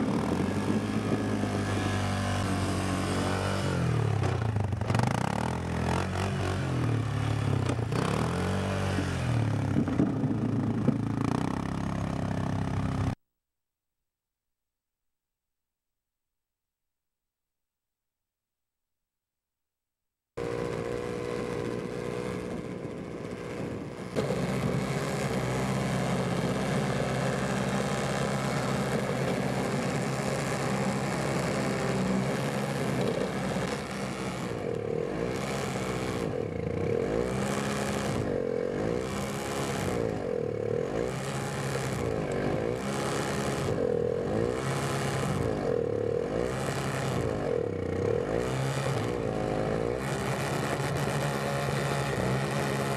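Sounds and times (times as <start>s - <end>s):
engine revving: 0.0s - 13.2s, 20.4s - 52.9s.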